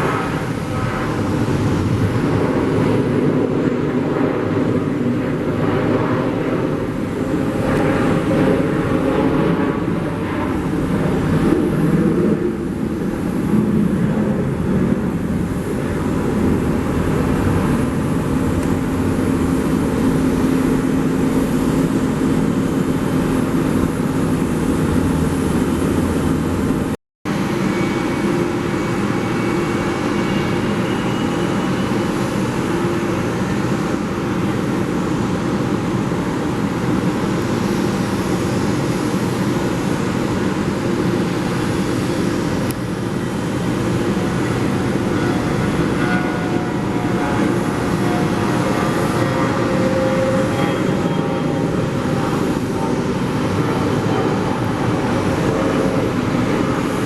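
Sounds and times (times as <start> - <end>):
jet airliner engines running: 0.0 - 57.0.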